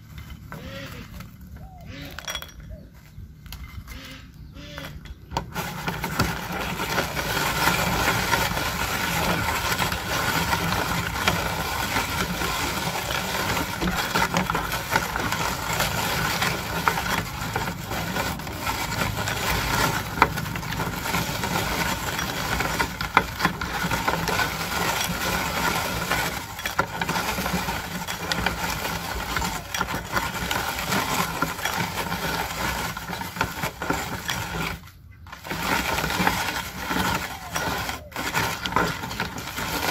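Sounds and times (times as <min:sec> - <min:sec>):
meat grinder crunching: 0:00.0 - 0:02.2, 0:03.1 - 0:39.9.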